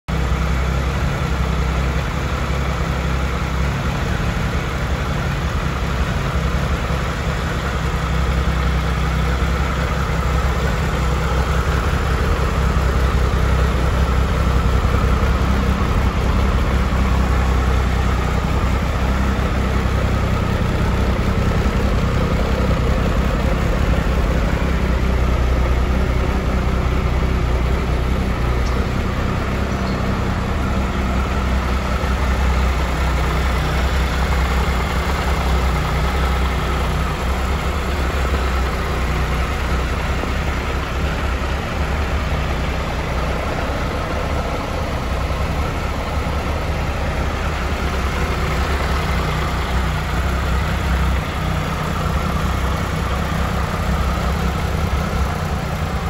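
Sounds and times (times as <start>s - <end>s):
motorcycle engine idling: 0.1s - 56.0s.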